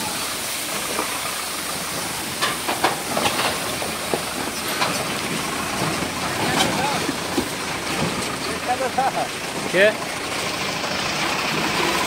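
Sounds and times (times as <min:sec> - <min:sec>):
truck rushing noise: 0:00.0 - 0:12.0.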